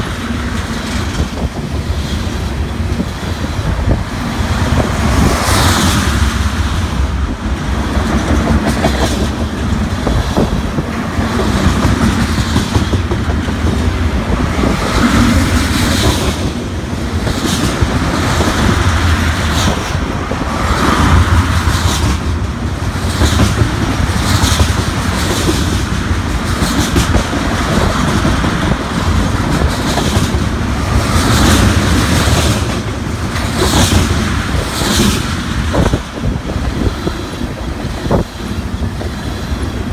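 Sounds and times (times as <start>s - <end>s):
train low rumble: 0.0s - 39.9s
train wheels clacking over rail joints: 0.0s - 39.9s.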